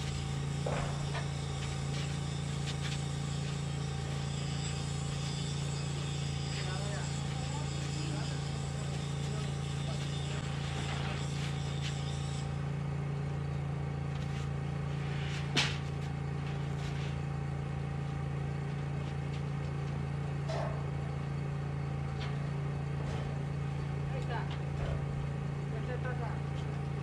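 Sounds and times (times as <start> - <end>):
engine humming steadily: 0.0 - 27.0.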